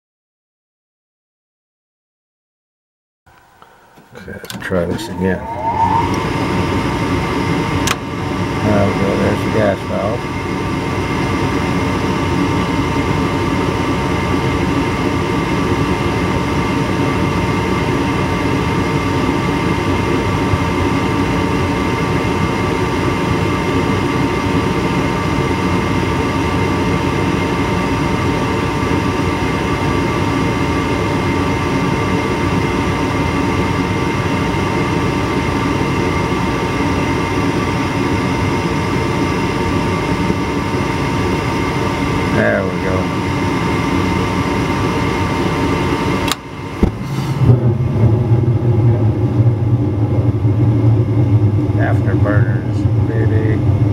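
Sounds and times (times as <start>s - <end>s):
gas burners rushing: 3.3s - 53.9s
steady humming tones: 3.3s - 53.9s.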